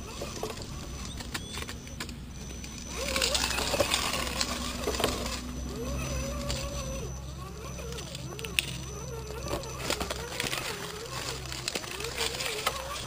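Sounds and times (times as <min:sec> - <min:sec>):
electric motor whine: 0:00.0 - 0:13.0
gear rattle and clicks: 0:00.0 - 0:13.0.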